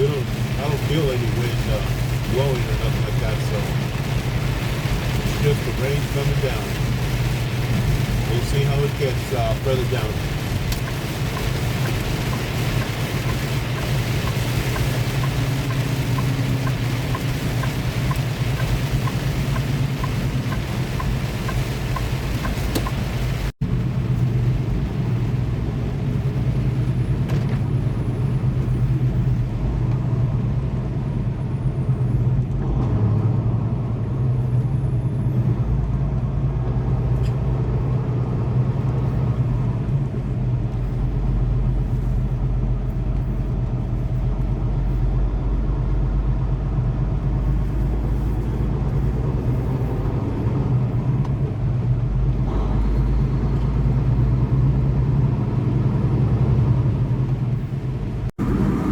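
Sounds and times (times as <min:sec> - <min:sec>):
road and tyre noise: 0:00.0 - 0:58.9
truck engine drone: 0:00.0 - 0:58.9.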